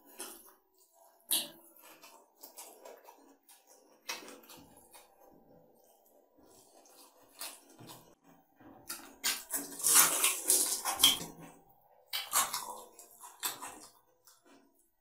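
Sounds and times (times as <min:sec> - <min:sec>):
wet chewing and lip smacking: 0:00.1 - 0:08.2, 0:08.9 - 0:14.9.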